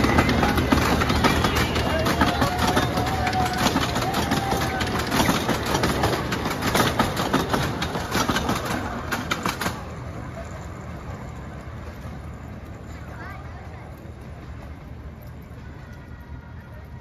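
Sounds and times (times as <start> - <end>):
train rumble: 0.0 - 17.0
train wheels clicking over rail joints: 0.0 - 17.0.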